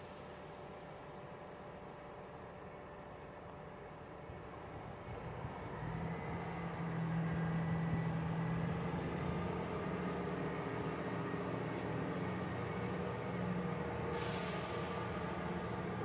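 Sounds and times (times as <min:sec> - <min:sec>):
train diesel engines droning: 0:00.0 - 0:16.0.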